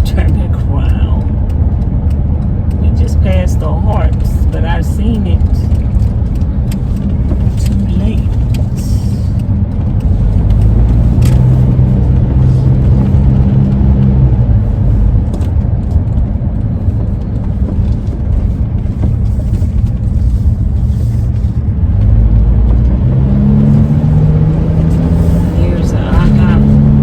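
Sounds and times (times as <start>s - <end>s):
van engine and road rumble: 0.0s - 27.0s.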